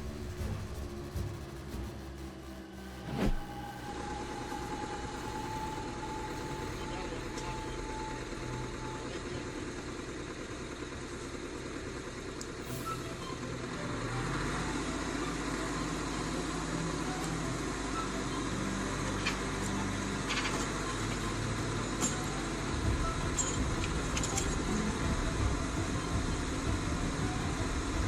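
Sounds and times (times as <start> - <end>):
heavy vehicle engine running: 0.0 - 28.0.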